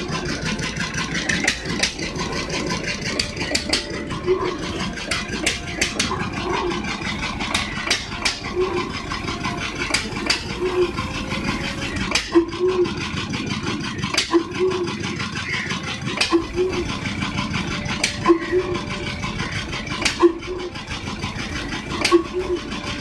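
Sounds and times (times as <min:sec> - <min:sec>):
stationary engine running: 0:00.0 - 0:23.0.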